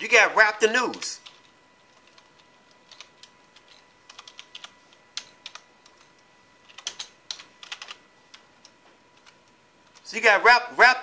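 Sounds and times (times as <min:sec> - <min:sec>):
keyboard typing clicks: 0:00.9 - 0:10.1.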